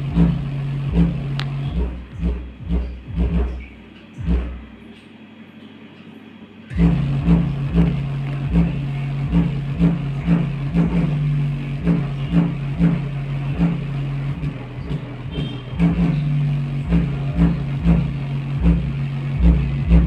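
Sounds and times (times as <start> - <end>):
subwoofer pulsing bass: 0.0 - 5.0, 6.7 - 20.0.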